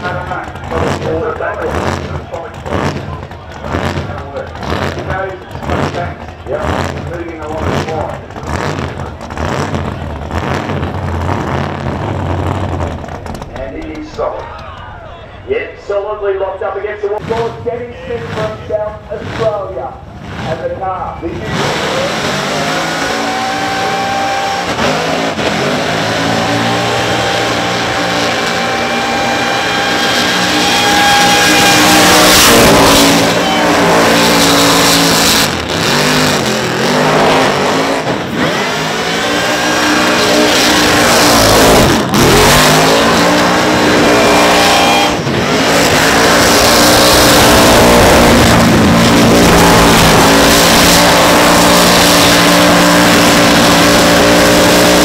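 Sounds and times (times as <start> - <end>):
engine revving during burnout: 0.0 - 14.4, 17.1 - 55.0.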